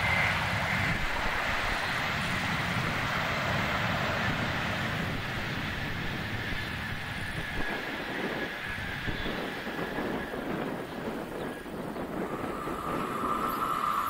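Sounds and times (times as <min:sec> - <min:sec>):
distant train passing at speed: 0:00.0 - 0:14.0
wheels rumbling on rail: 0:00.0 - 0:14.0.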